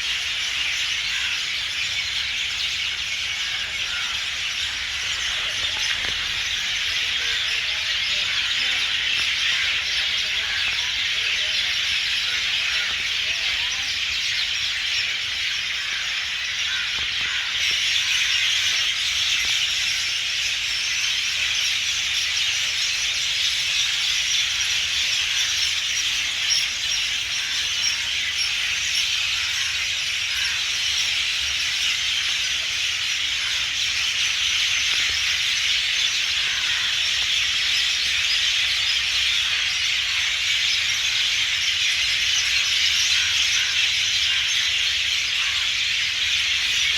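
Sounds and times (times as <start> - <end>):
chorus of birds singing: 0.0 - 46.9.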